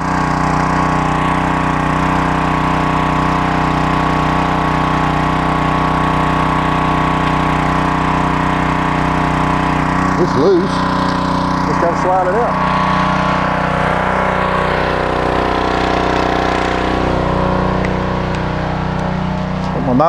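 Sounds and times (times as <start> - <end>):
pressure washer engine running: 0.0 - 20.0.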